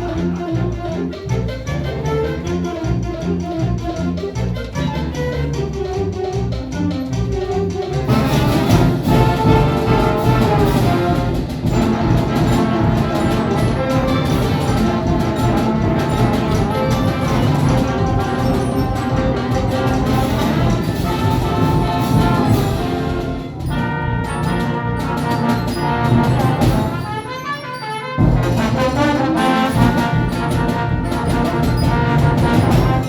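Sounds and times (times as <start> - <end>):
jazz band playing lively galop: 0.0 - 33.0
trumpets and trombones: 0.0 - 33.0.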